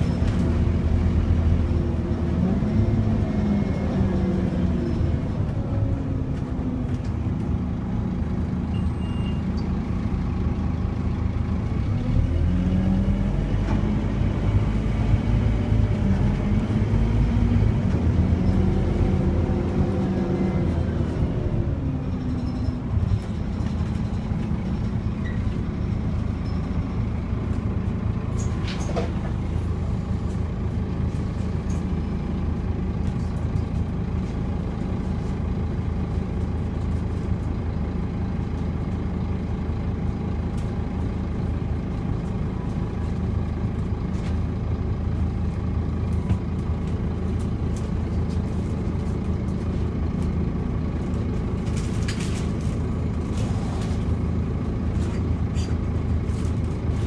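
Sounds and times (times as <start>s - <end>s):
diesel bus engine idling: 0.0s - 57.0s.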